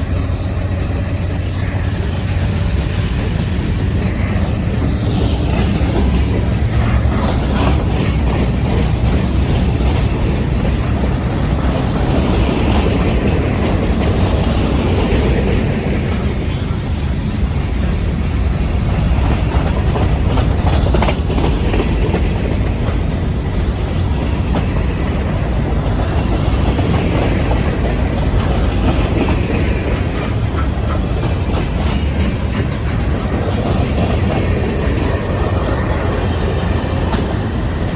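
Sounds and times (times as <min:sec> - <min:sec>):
freight train wheels clacking: 0:00.0 - 0:37.9.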